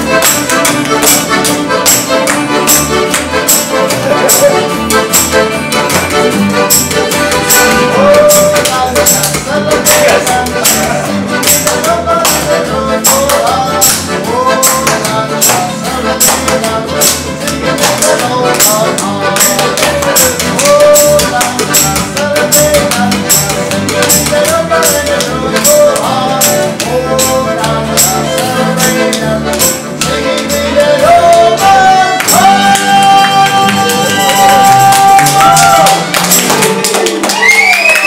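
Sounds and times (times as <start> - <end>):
accordion: 0.0 - 38.0
percussive beat: 0.0 - 38.0.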